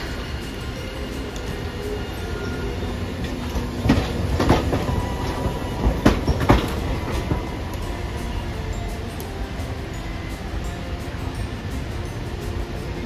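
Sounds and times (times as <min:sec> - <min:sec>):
streetcar rumbling past: 0:00.0 - 0:13.0
wheels clacking over track: 0:00.0 - 0:13.0.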